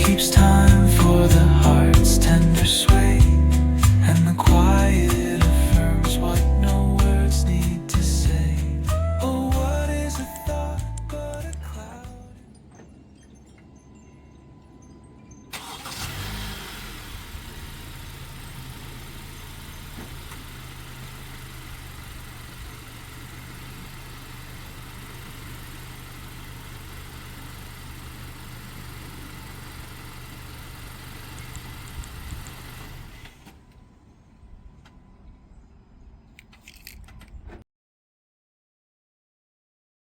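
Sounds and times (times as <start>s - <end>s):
car engine cranking and idling: 0.0s - 37.5s.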